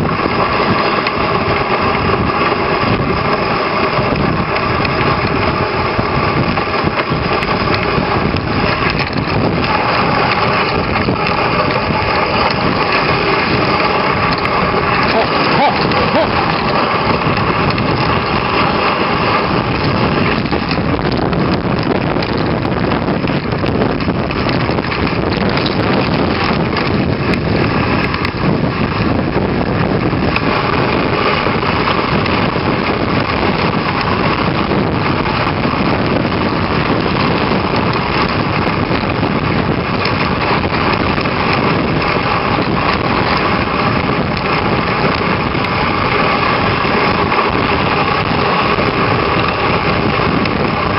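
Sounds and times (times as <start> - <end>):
wind rumble on microphone: 0.0 - 50.9
sled runners hissing on snow: 0.1 - 21.5, 27.6 - 50.9.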